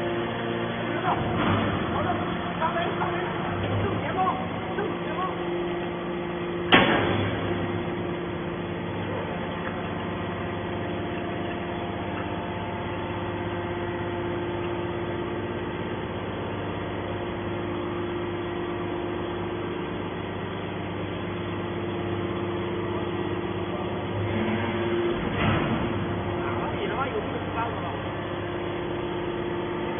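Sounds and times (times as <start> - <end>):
hydraulic pump humming: 0.0 - 29.9.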